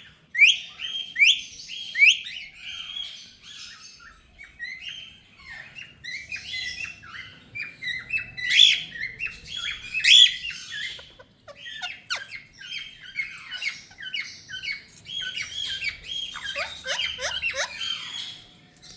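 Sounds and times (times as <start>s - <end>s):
parrots chirping and squawking: 0.1s - 18.9s.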